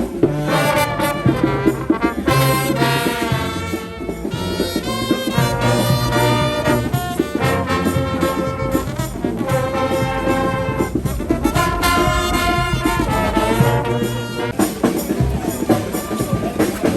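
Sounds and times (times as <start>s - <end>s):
quick steady drum beat: 0.0s - 16.9s
trumpets and trombones: 0.0s - 16.9s.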